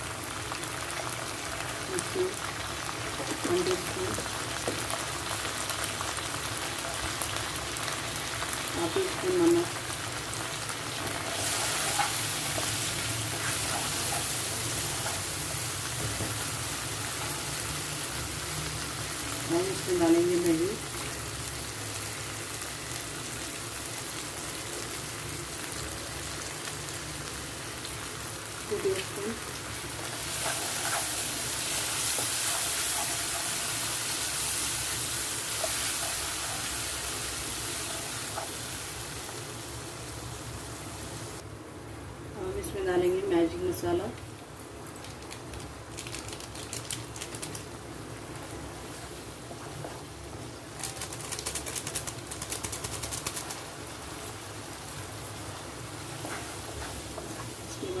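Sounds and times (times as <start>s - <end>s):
vegetables sizzling in hot oil: 0.0s - 41.5s, 42.4s - 58.0s.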